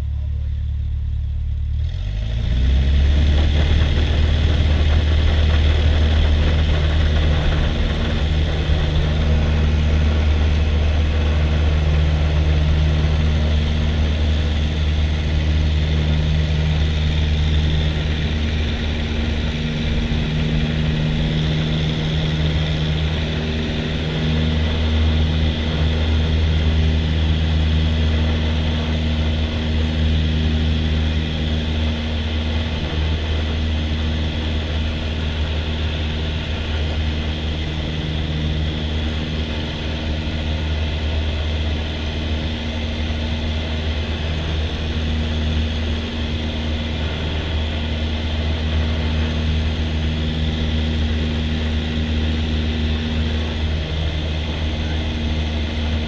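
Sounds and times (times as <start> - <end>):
airplane engine and propeller: 0.0 - 56.0.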